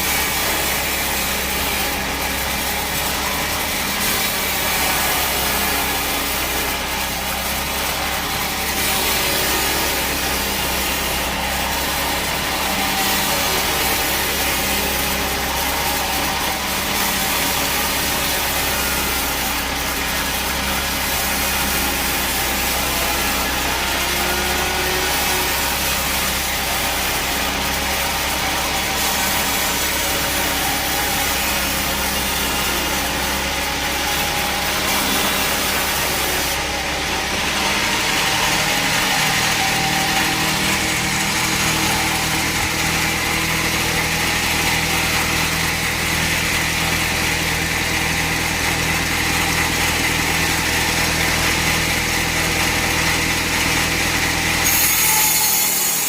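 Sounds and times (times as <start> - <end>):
sawmill machine hum: 0.0 - 56.0.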